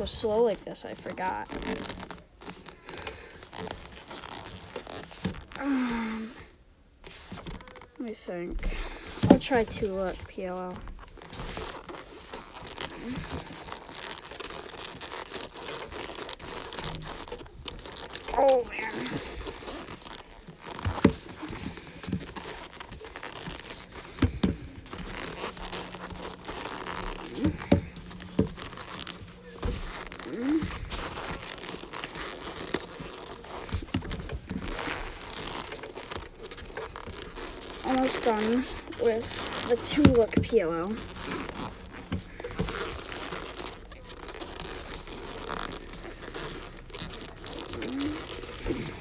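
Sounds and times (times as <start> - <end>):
boxing gloves rustling: 0.0 - 49.0.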